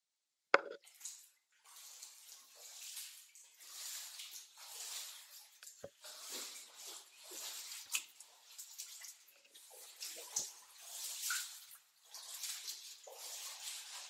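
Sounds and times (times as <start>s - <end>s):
water sloshing and splashing: 0.6s - 14.0s.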